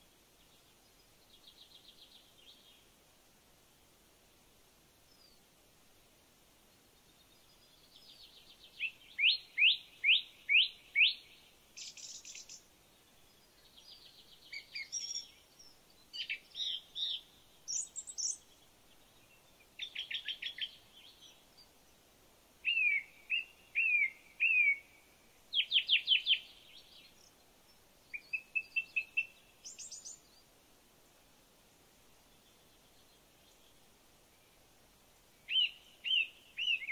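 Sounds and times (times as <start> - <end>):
songbird singing: 0.0 - 36.9.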